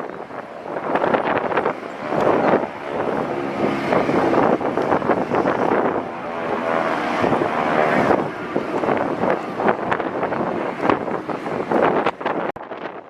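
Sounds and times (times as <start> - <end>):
propeller plane engine drone: 0.0 - 13.0
wind buffeting microphone: 0.0 - 13.0.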